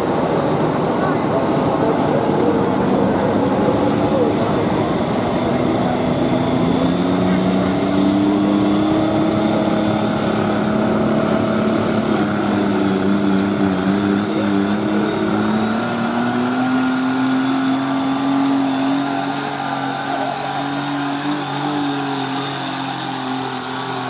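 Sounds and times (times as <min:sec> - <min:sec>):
garden tractor engine running: 0:00.9 - 0:24.0.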